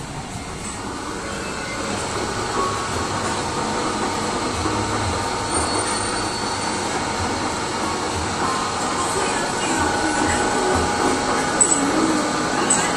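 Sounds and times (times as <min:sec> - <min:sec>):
lathe motor humming and whining: 0:00.0 - 0:12.9.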